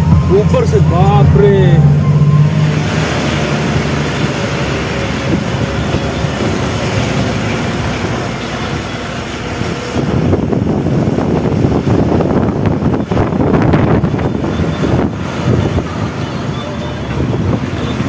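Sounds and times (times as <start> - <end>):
road noise: 0.0 - 18.0
truck engine rumble: 0.0 - 18.0.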